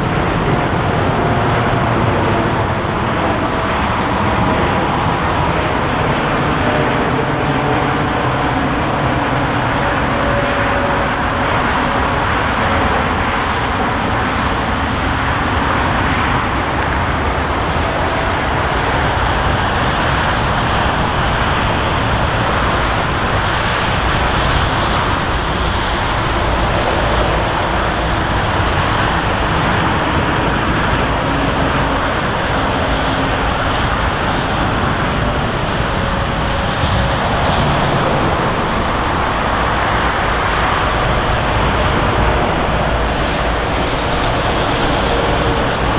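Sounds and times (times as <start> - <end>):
faint jet whine: 0.0 - 45.9
jet engine rush: 0.0 - 45.9.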